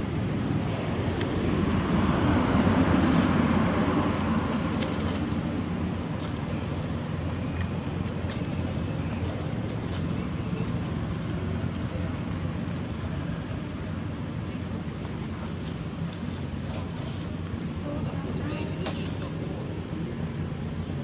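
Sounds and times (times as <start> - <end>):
high-pitched insect chorus: 0.0 - 21.0
low wind rumble: 0.0 - 21.0.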